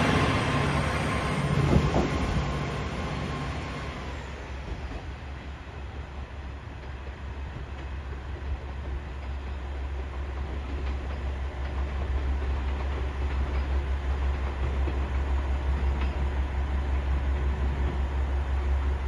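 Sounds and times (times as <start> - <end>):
diesel train engine drone: 0.0 - 19.0.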